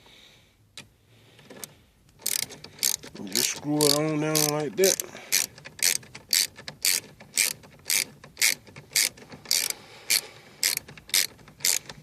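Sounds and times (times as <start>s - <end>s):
ratchet wrench clicking: 2.2s - 12.0s.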